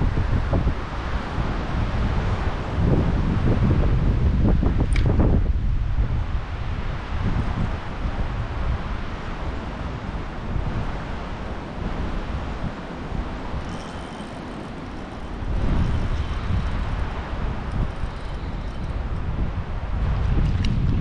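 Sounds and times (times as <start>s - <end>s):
wind gusting over microphone: 0.0s - 21.0s.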